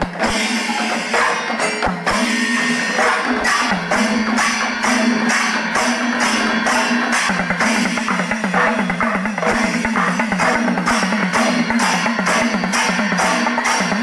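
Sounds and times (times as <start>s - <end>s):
drums and cymbals beating: 0.0s - 14.0s.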